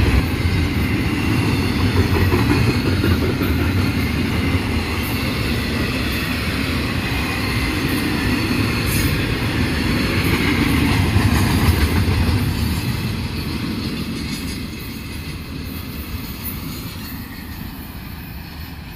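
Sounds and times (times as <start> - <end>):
rail joint clicks: 0.0 - 18.9
train wheels rumbling: 0.0 - 18.9.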